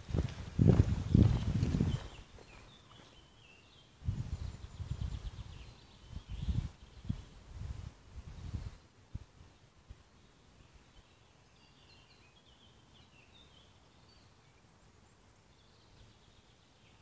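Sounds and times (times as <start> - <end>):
faint distant birdsong: 0.0 - 17.0.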